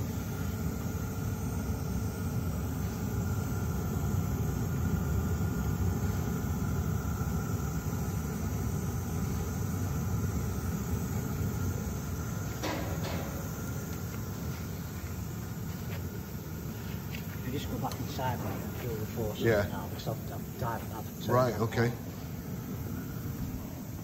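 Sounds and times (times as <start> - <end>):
air heater low rumble: 0.0 - 24.0
faint high whine: 0.0 - 24.0.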